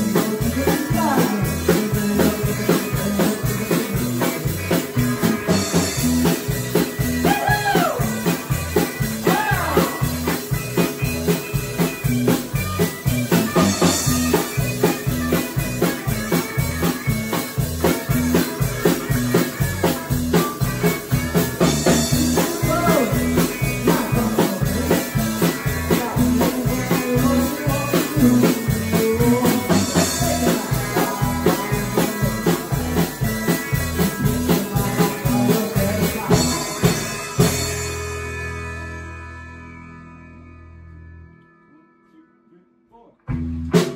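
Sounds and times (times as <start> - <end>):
live band playing blues: 0.0 - 40.4, 43.3 - 43.9.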